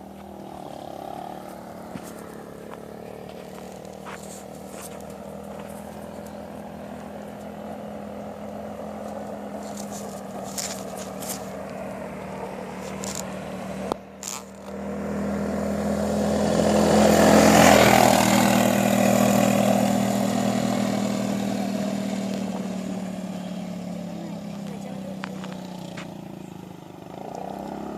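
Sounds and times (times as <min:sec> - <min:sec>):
atv engine running: 0:00.0 - 0:27.9.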